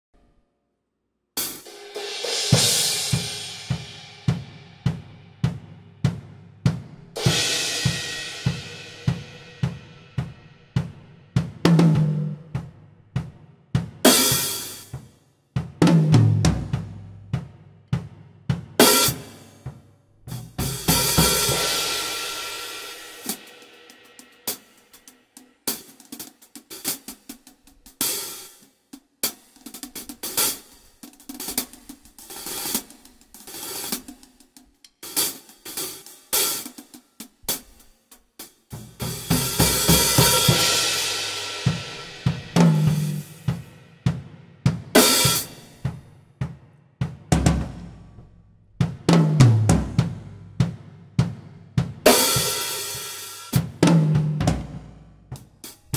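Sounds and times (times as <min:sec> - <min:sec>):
drum kit groove: 0:01.4 - 0:55.9.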